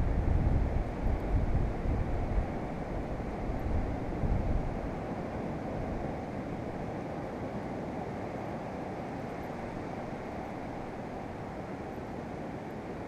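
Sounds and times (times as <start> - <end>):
wind: 0.0 - 13.0
wind rumble on microphone: 0.0 - 13.0.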